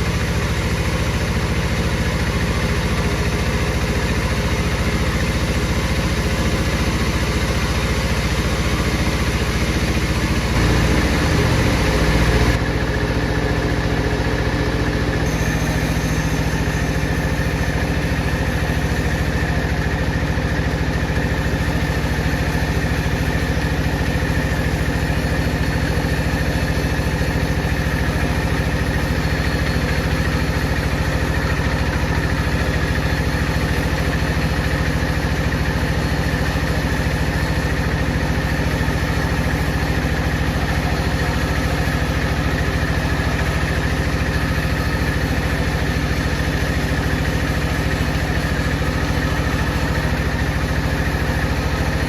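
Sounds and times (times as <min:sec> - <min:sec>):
power saw running: 0:00.0 - 0:52.0.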